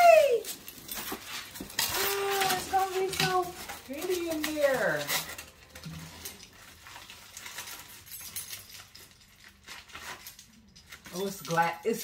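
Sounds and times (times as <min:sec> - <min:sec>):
plastic wrap and styrofoam rustling: 0:00.0 - 0:12.0.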